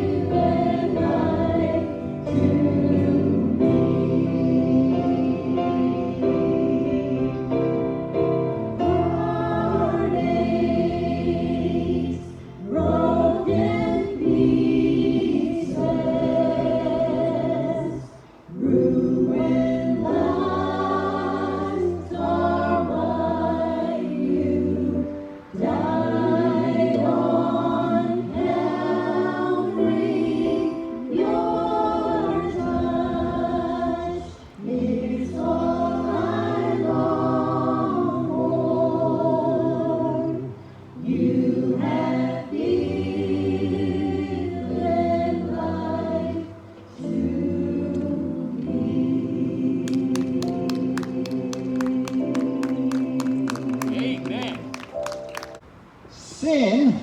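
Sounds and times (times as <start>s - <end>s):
voices singing gospel: 0.0s - 57.0s.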